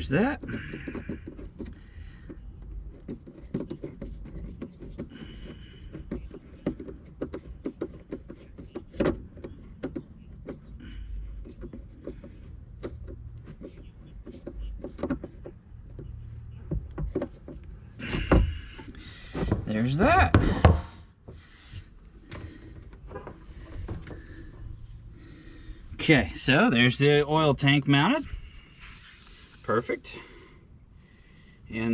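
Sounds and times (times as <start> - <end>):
parts clicking and rattling: 0.0 - 26.1
low steady hum: 0.0 - 31.9.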